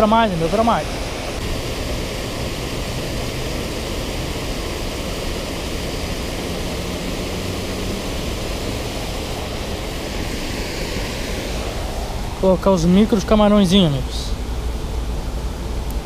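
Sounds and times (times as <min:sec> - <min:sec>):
water rushing over weir: 0:00.0 - 0:16.0.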